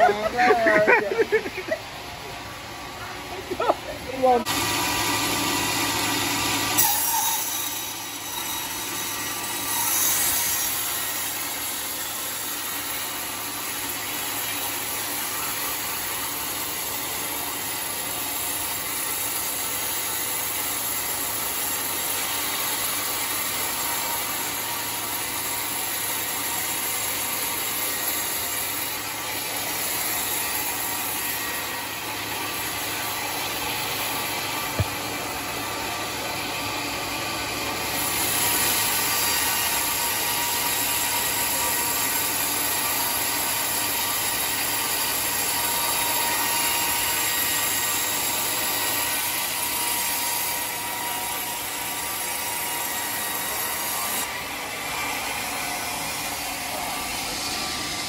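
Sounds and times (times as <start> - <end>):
sawmill cutting through log: 1.9 - 58.0.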